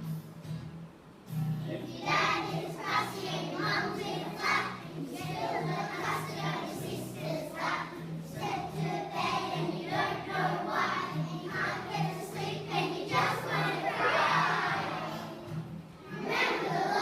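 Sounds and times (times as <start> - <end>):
children singing as a choir: 1.8 - 17.0.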